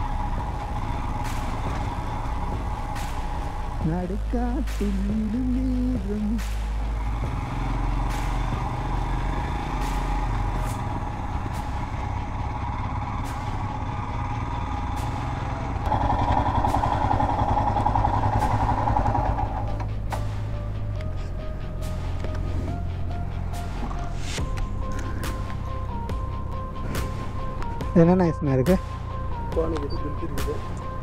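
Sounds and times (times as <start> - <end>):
motorcycle engine running: 0.0 - 28.1.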